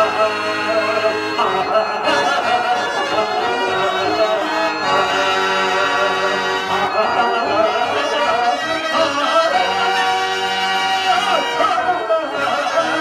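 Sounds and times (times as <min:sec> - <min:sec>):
harmonium playing a melody: 0:00.0 - 0:13.0.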